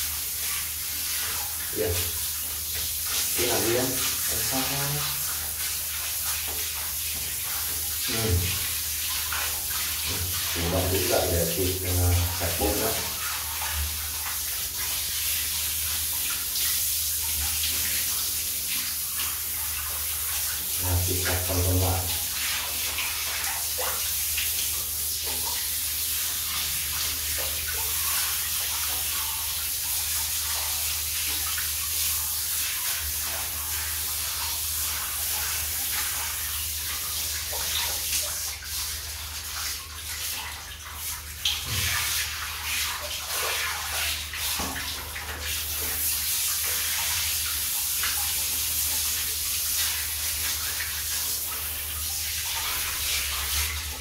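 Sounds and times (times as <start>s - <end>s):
shower water spraying: 0.0s - 54.0s
water splashing on plastic grates: 0.0s - 54.0s.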